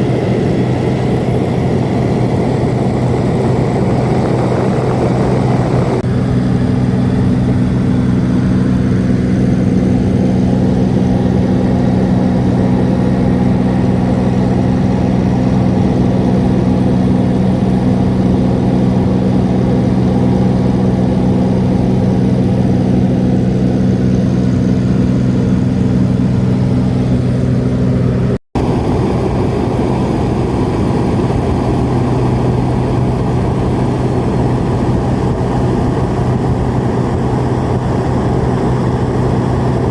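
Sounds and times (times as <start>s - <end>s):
propeller engine drone in cabin: 0.0s - 39.9s.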